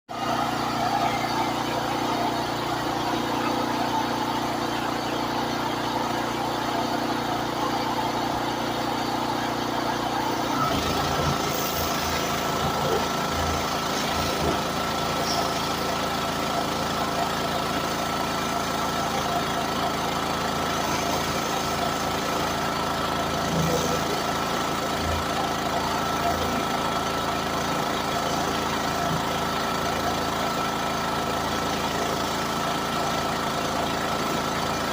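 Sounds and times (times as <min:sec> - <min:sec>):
pressure washer engine running: 0:00.1 - 0:34.9.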